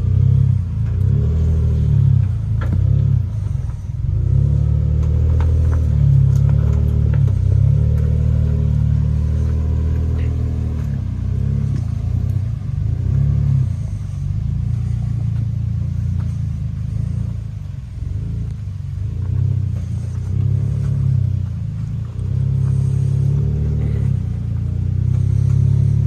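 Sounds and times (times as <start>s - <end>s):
off-road engine pulling: 0.0s - 26.0s.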